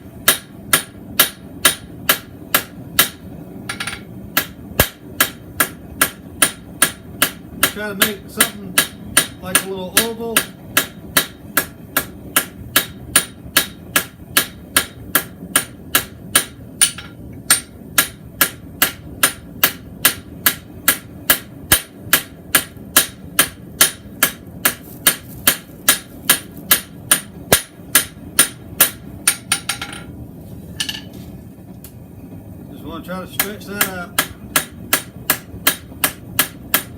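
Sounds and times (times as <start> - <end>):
hammer striking steel on anvil: 0.2 - 30.1, 33.4 - 36.9.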